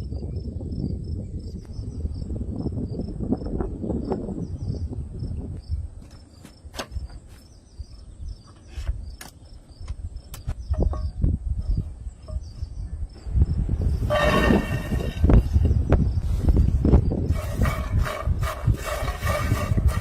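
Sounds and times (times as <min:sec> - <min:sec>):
crickets chirping: 0:00.1 - 0:17.9.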